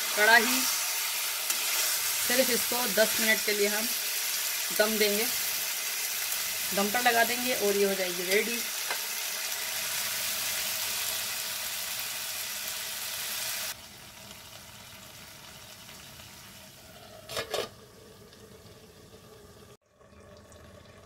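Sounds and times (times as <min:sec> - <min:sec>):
vegetables sizzling in oil: 0:00.0 - 0:17.1.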